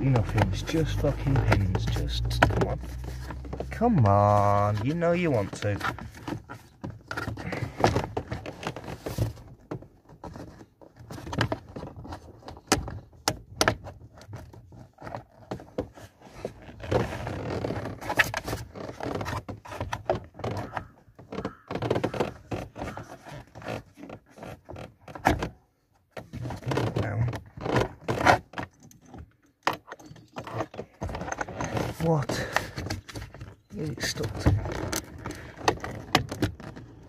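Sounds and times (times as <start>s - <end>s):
hard plastic knocking and scraping: 0.0s - 37.0s.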